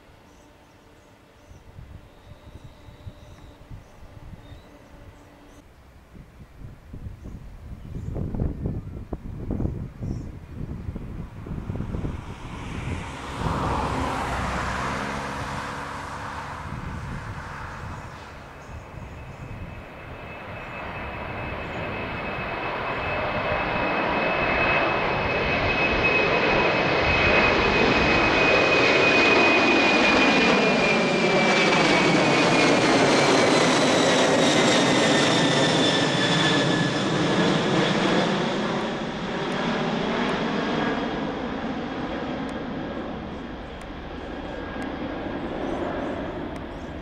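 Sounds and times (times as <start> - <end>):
jet plane taking off: 0.0 - 5.6, 6.6 - 47.0
high jet whine: 0.0 - 47.0.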